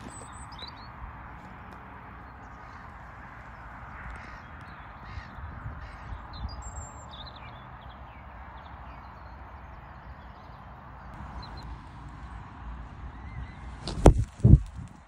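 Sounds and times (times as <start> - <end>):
bird calls: 0.0 - 14.6.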